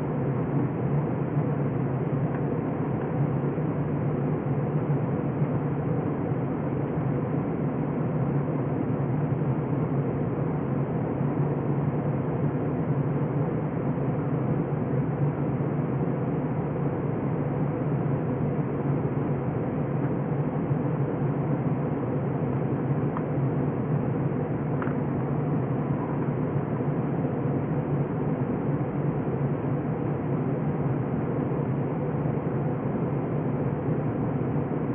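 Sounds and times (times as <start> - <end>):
aircraft cabin drone: 0.0 - 34.9.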